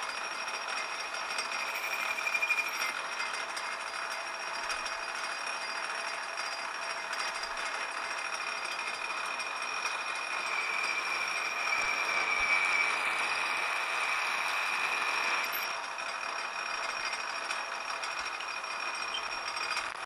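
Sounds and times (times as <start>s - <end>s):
lathe cutting noise: 0.0s - 20.0s
metal lathe whine: 0.0s - 20.0s.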